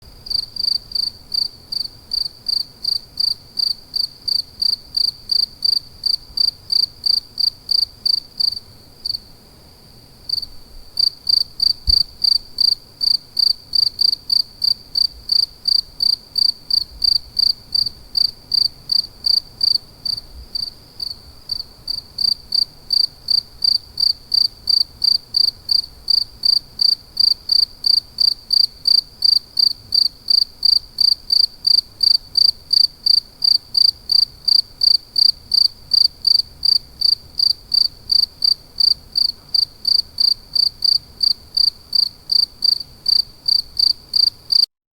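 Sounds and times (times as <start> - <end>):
cricket chirping: 0.2 - 9.3, 10.3 - 44.7.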